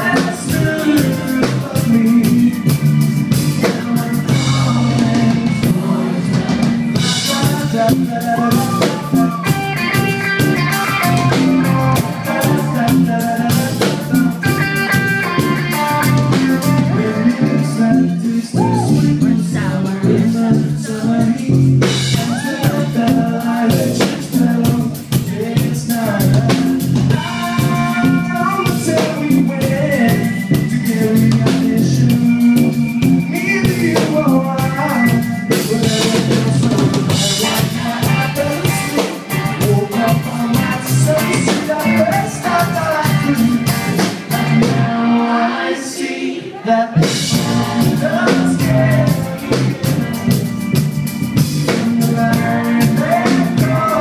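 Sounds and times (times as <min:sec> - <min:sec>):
rock band playing live: 0:00.0 - 0:45.7, 0:46.6 - 0:54.0
person singing: 0:00.0 - 0:50.6, 0:51.6 - 0:54.0.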